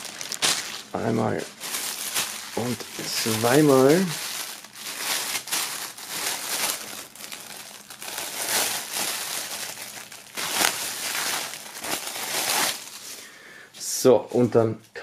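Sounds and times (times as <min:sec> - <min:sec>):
plastic film crinkling: 0:00.0 - 0:13.3.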